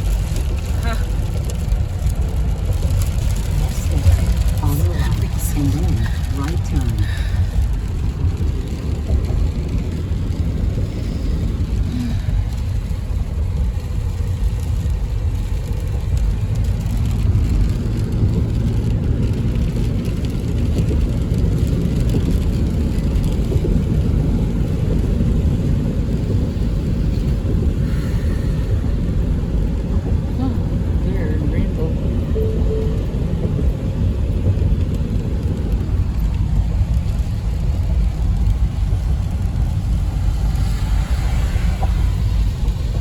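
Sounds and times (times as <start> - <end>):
road and tyre noise in car: 0.0 - 43.0.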